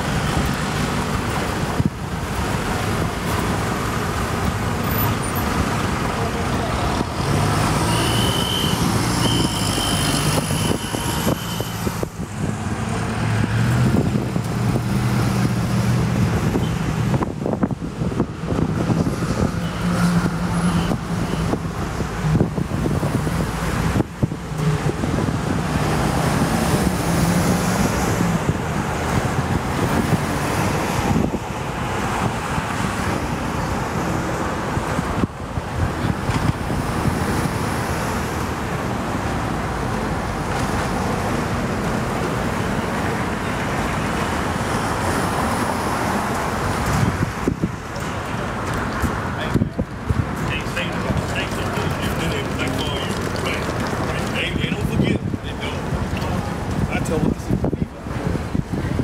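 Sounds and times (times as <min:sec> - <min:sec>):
passing cars: 0:00.0 - 0:59.0.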